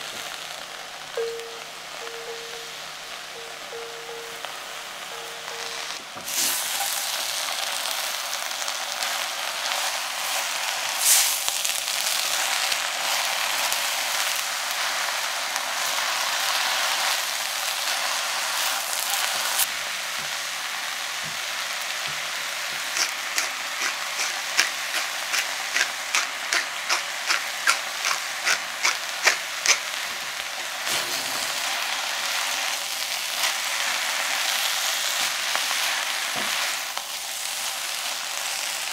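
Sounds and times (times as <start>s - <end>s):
food sizzling in a frying pan: 0.0s - 38.9s.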